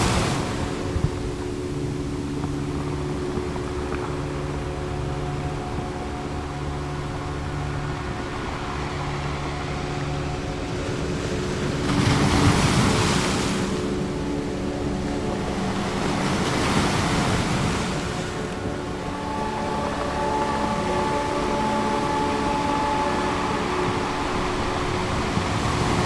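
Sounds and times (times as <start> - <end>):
ocean waves washing: 0.0 - 26.0
soft drone of held tones: 0.0 - 26.0.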